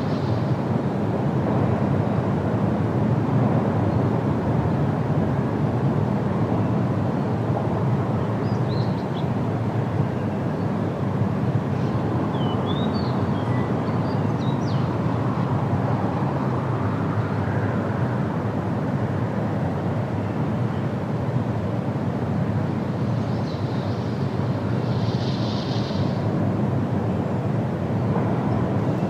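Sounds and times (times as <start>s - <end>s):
wind rushing through trees: 0.0s - 29.0s.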